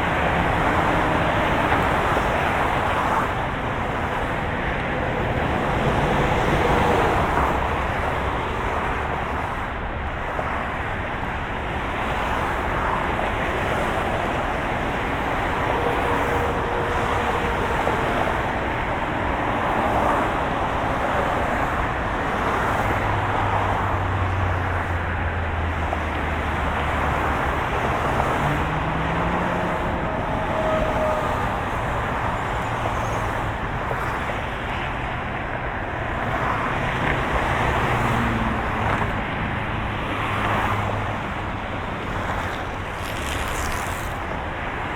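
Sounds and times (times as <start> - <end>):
moving car engine and road hum: 0.0 - 44.9.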